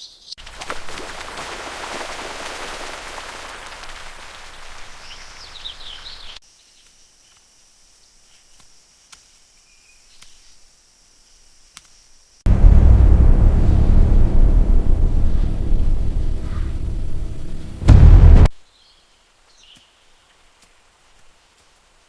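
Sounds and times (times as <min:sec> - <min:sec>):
dense hiss like heavy rain: 0:00.6 - 0:09.7, 0:10.4 - 0:22.0.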